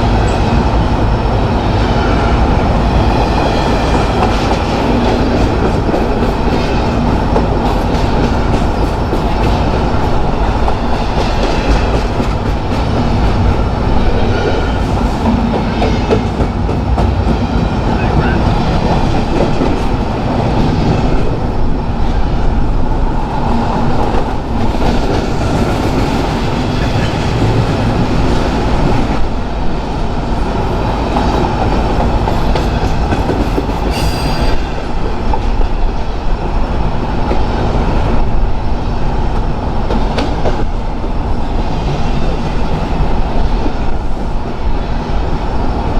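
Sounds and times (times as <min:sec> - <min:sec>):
railcar wheels clattering on rails: 0:00.0 - 0:45.9.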